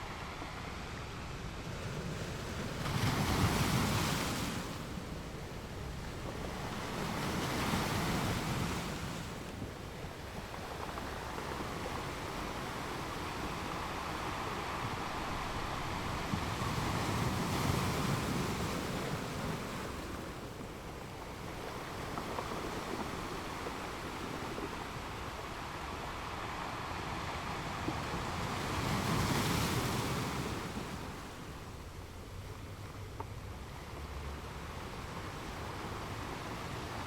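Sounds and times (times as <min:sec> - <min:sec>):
ocean surf waves breaking: 0:00.0 - 0:37.0.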